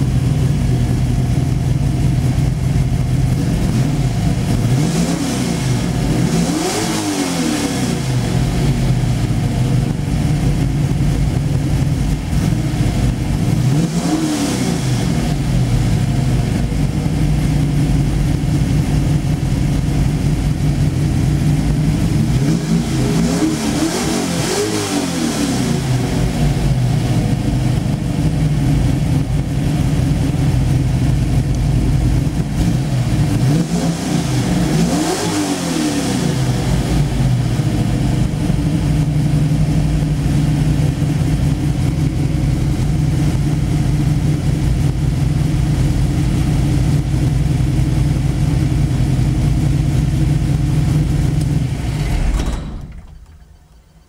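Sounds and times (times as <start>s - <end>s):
engine revving: 0.0s - 53.4s
car engine idling: 0.0s - 54.0s.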